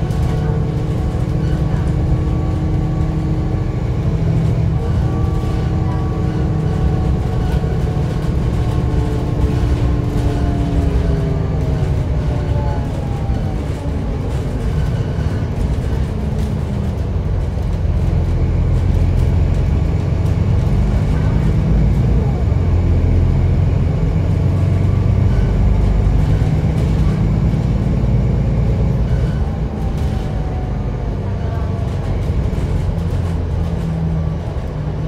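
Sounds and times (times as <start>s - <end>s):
bus engine rumbling: 0.0s - 35.0s.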